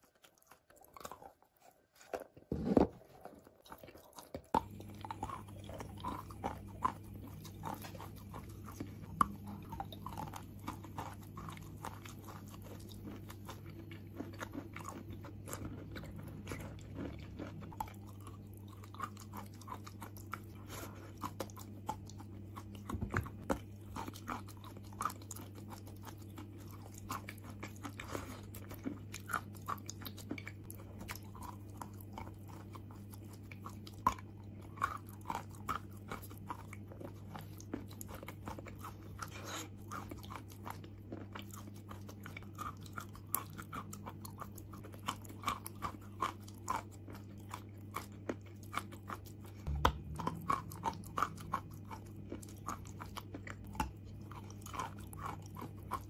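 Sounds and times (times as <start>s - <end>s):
chalk crunching in mouth: 0.0s - 56.0s
steady low hum: 2.0s - 56.0s.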